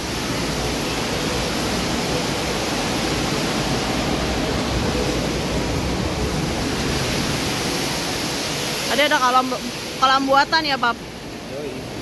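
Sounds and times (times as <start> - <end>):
indoor waterfall into pool: 0.0 - 12.0.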